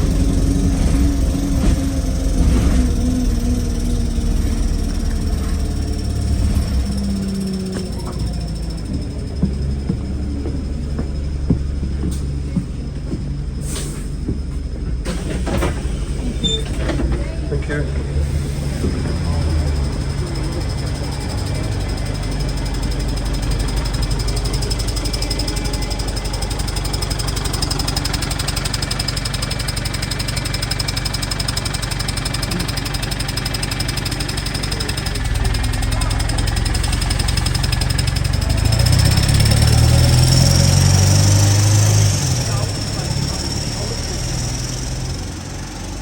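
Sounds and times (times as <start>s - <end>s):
bus engine low drone: 0.0s - 46.0s.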